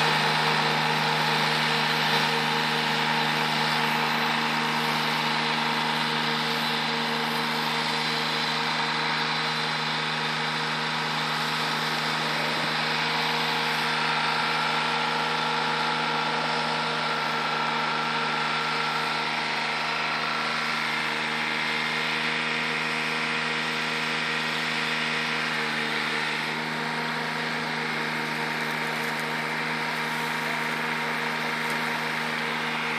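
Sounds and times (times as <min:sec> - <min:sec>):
mower engine running steadily: 0:00.0 - 0:32.9.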